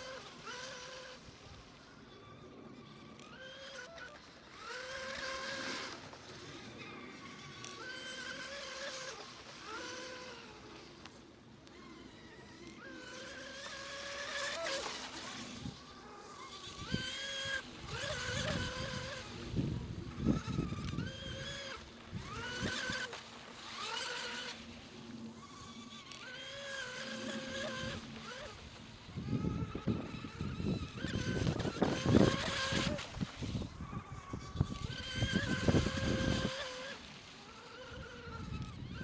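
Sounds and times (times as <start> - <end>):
model boat electric motor whine: 0.0 - 39.0.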